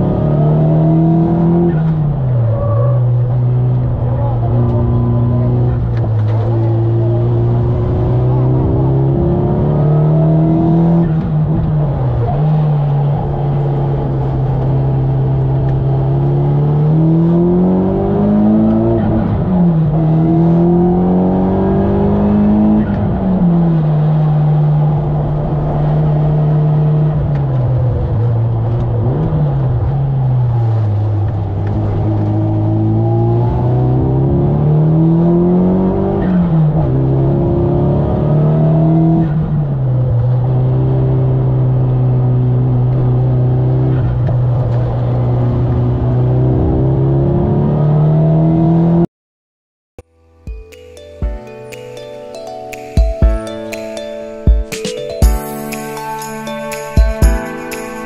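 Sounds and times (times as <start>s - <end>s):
car engine revving: 0.0s - 49.1s.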